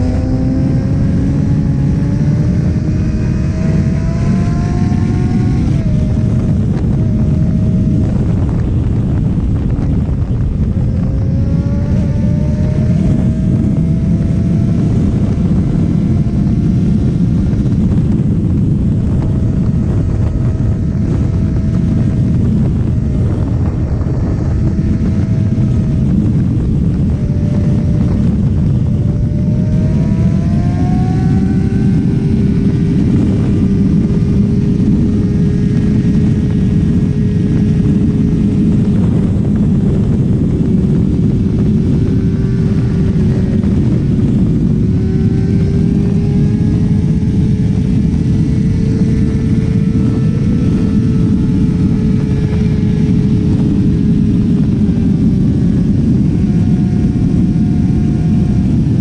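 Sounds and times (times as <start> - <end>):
motorcycle engine accelerating: 0.0 - 59.0
wind rushing: 0.0 - 59.0.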